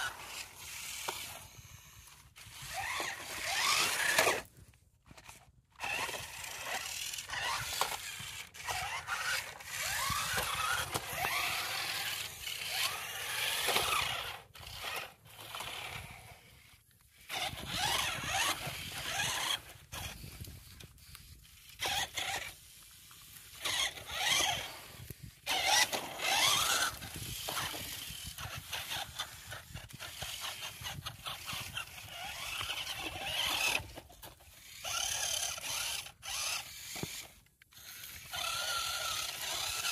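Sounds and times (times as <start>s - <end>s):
wheels scraping through sand: 0.0s - 4.6s, 5.2s - 37.3s, 38.2s - 39.9s
toy electric motors whining: 0.0s - 39.9s.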